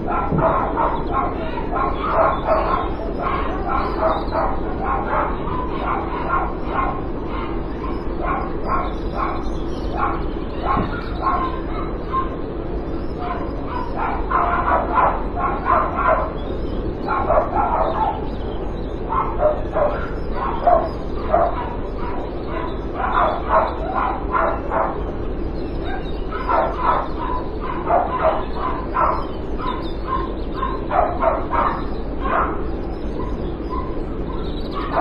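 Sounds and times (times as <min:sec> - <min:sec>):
dogs barking: 0:00.0 - 0:35.0.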